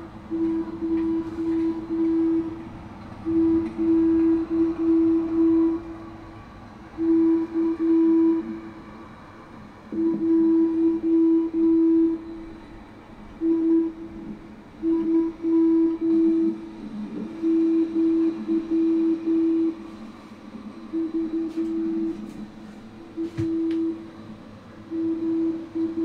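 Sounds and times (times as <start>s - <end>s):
morse code tone: 0.3s - 2.6s, 3.2s - 6.0s, 7.0s - 8.7s, 9.9s - 12.6s, 13.4s - 26.0s.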